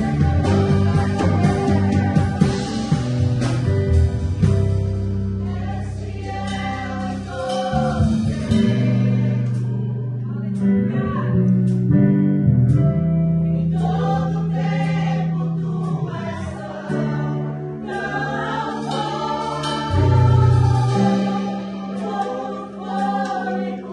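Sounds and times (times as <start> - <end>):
digital piano: 0.0 - 23.9
drum kit: 0.0 - 23.9
electric bass: 0.0 - 23.9.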